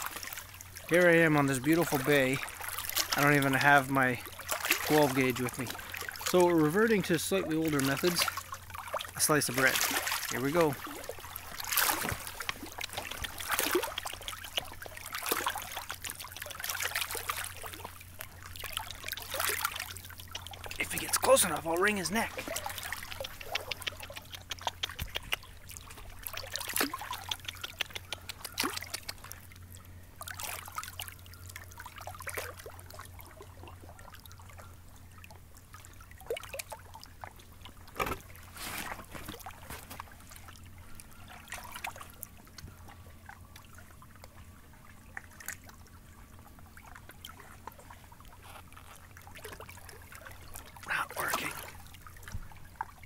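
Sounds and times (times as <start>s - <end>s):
small water splashes: 0.0s - 53.0s
water lapping and trickling: 0.0s - 53.0s.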